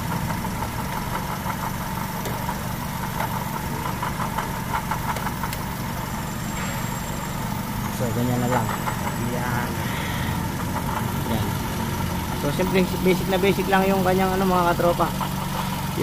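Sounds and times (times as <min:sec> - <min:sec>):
car engine idling: 0:00.0 - 0:16.0
grinding hum of accessories: 0:00.0 - 0:16.0.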